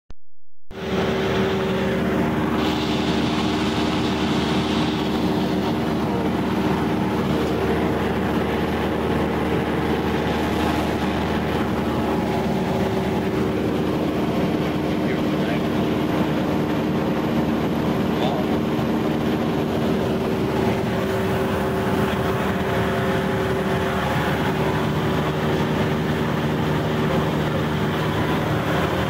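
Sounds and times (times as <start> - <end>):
propeller plane cabin drone: 0.7 - 29.0.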